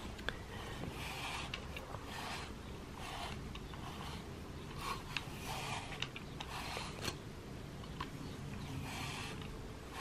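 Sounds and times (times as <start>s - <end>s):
brush raking through cat fur: 0.0s - 7.2s, 8.7s - 10.0s.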